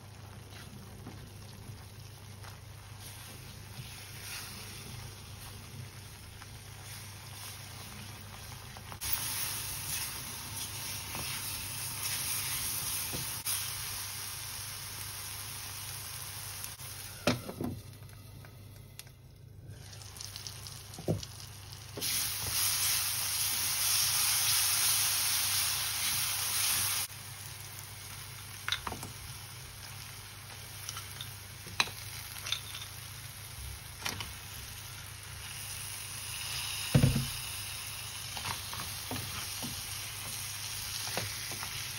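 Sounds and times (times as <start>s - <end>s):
food sizzling in frying pan: 0.0s - 17.3s, 19.6s - 41.9s.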